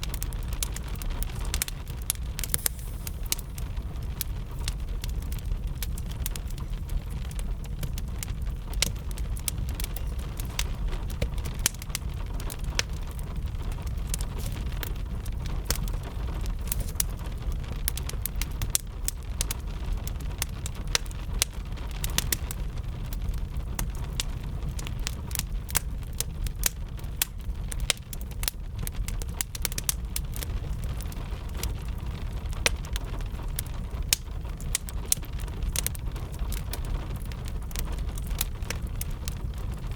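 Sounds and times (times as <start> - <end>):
fire crackling: 0.0 - 39.9
gentle rain: 0.0 - 39.9.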